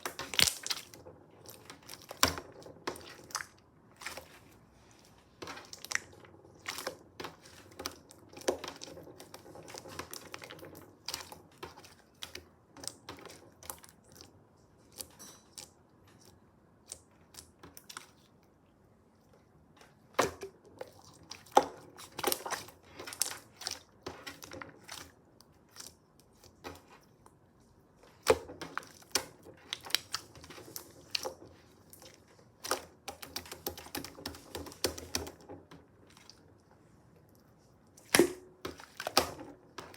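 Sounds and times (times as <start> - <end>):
soft crackling of slime: 0.0 - 39.9.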